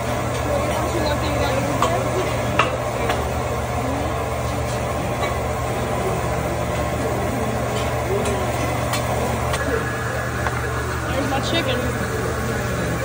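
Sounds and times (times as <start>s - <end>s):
food cooking on a griddle: 0.0s - 13.0s
steady low hum: 0.0s - 13.0s.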